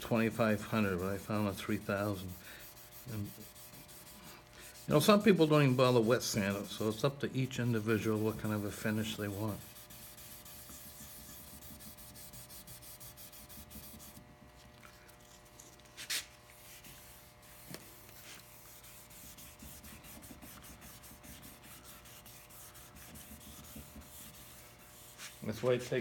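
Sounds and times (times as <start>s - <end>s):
wet sandpaper rubbing softly: 0.0s - 14.2s, 14.8s - 26.0s.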